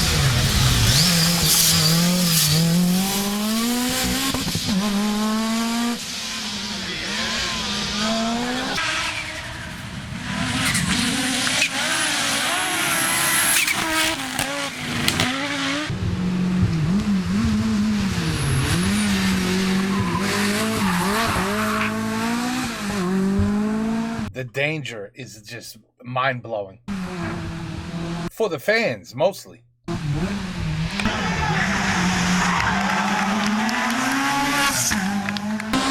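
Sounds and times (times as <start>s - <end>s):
tyres skidding and squealing: 0.0s - 16.0s, 16.6s - 24.3s, 29.9s - 35.9s
rally car engines revving: 0.0s - 24.3s, 26.9s - 28.3s, 29.9s - 35.9s.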